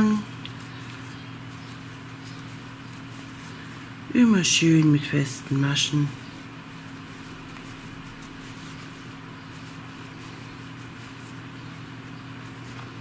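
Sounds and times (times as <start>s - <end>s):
crochet hook scratching yarn: 0.0s - 13.0s
low room hum: 0.0s - 13.0s.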